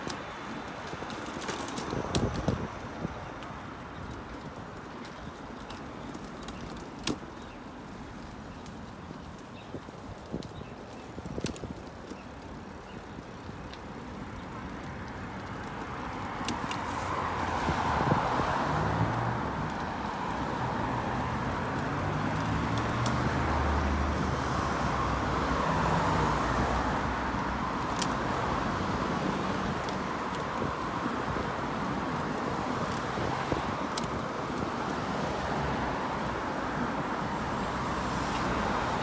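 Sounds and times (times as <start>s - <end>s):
city road traffic: 0.0s - 39.0s.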